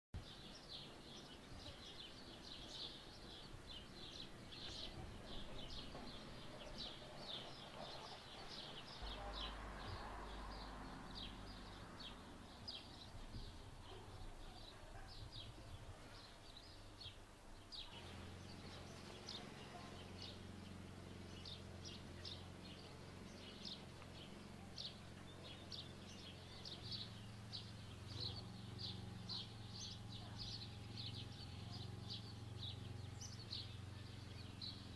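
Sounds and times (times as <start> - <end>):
small birds chirping: 0.2 - 34.9.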